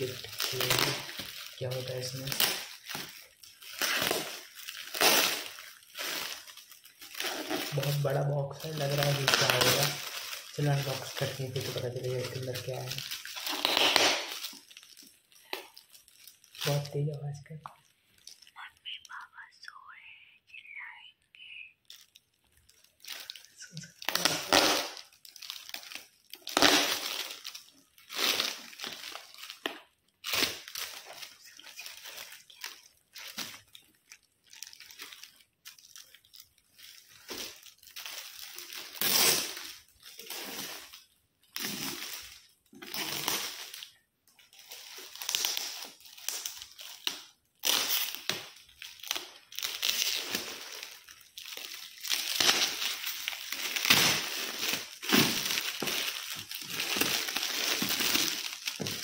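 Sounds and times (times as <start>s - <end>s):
gift wrap crinkling and tearing: 0.0s - 59.0s.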